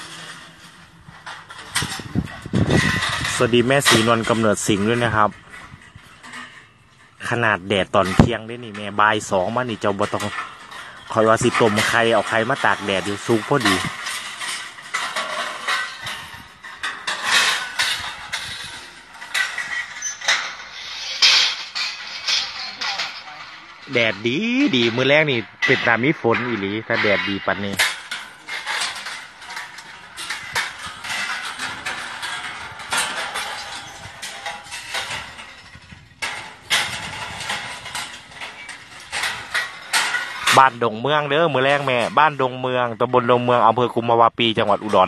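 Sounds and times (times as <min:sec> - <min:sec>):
metal scaffolding clanking: 0:00.0 - 0:45.0
outdoor noise: 0:00.0 - 0:45.0.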